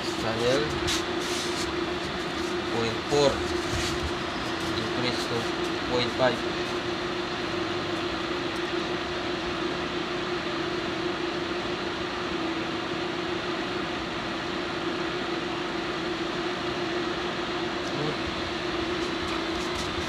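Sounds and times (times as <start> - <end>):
steady low hum with hiss: 0.0 - 20.0.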